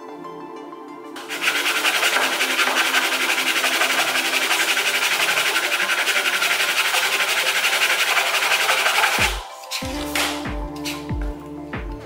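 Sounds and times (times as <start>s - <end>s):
background music: 0.0s - 12.0s
hand saw cutting wood: 1.2s - 11.0s.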